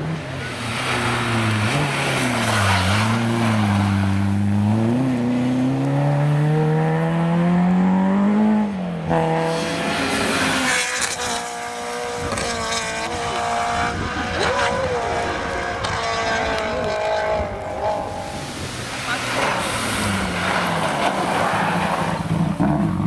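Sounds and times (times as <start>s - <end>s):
rally car engine accelerating: 0.0s - 23.0s
rally car engine at high revs: 0.0s - 23.0s.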